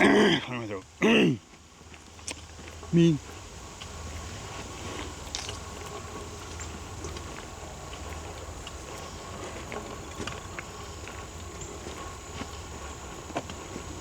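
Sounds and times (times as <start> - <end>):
footsteps on forest litter: 0.5 - 14.0.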